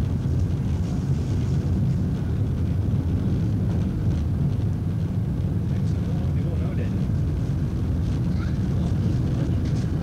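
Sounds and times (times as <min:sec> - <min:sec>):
diesel train drone: 0:00.0 - 0:10.0.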